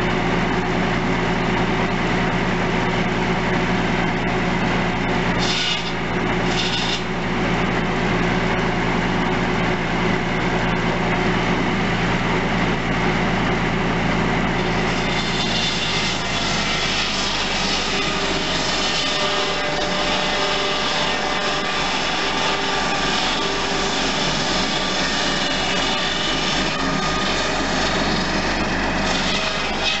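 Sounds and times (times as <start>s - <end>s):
circular saw cutting logs: 0.0s - 30.0s
tractor diesel engine running: 0.0s - 30.0s.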